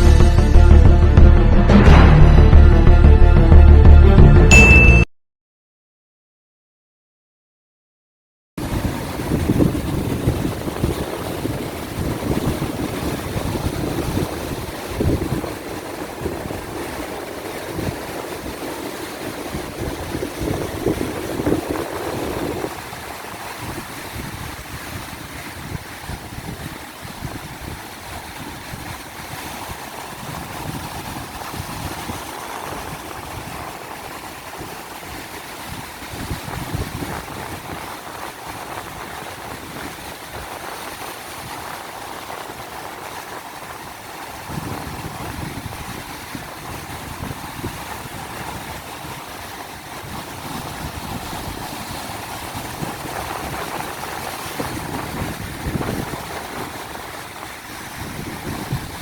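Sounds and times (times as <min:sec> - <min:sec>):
ocean surf breaking: 0:08.6 - 0:59.0
wind buffeting microphone: 0:08.6 - 0:59.0.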